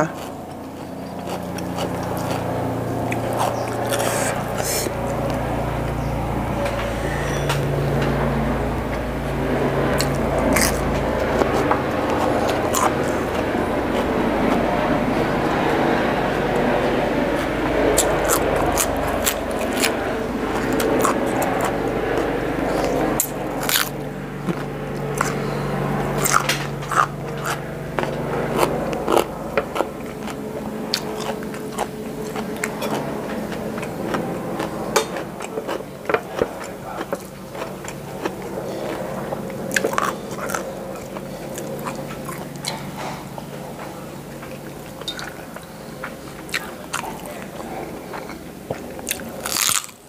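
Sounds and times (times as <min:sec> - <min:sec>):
crunching raw vegetables: 0:00.0 - 0:08.0, 0:09.9 - 0:15.2, 0:17.4 - 0:43.2, 0:44.5 - 0:50.0.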